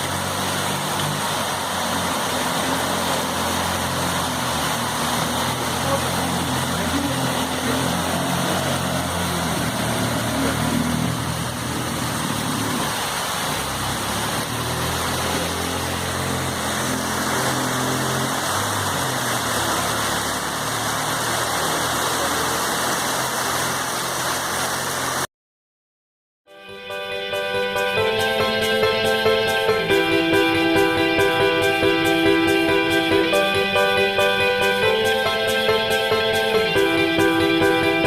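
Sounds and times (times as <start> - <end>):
vehicle engine running: 0.0 - 25.2, 27.4 - 38.0
heavy rain pouring: 0.0 - 25.3, 26.9 - 38.0.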